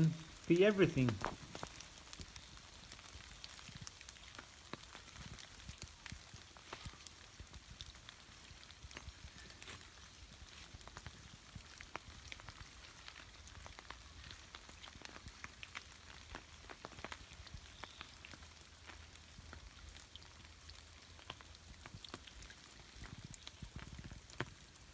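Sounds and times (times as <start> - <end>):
raindrops tapping: 0.0 - 24.9
soft rain hiss: 0.0 - 24.9.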